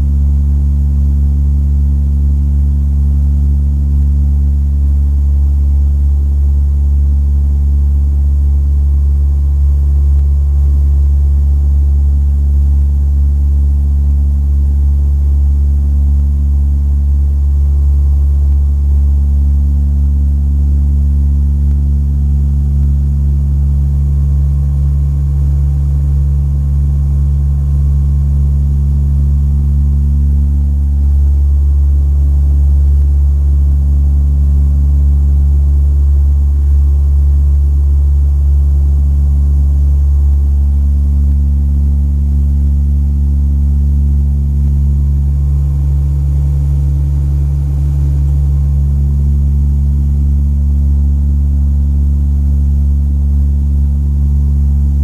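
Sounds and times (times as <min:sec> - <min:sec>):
turboprop engines droning in cabin: 0:00.0 - 0:55.0.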